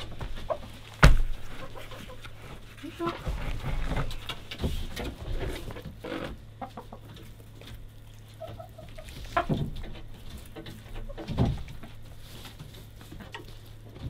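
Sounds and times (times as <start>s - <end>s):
chickens clucking softly: 0.0s - 3.3s, 4.0s - 14.0s.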